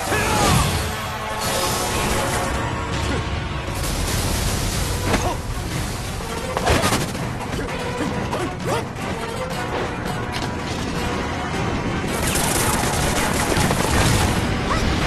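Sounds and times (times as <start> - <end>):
action music: 0.0 - 15.0.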